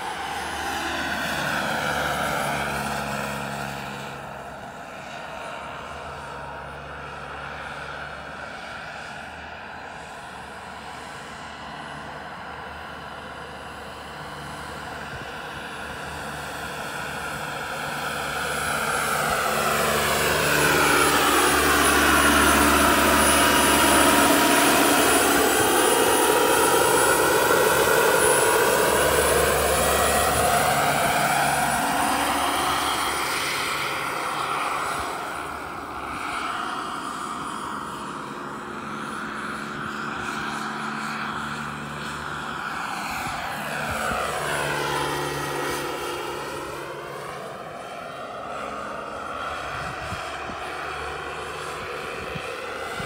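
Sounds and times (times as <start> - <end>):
model helicopter turbine whine: 0.0 - 53.0.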